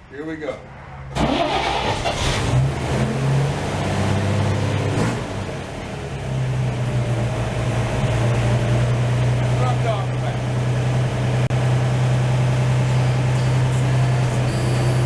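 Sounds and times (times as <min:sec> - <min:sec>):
truck engine fast idle revving: 0:01.1 - 0:15.0.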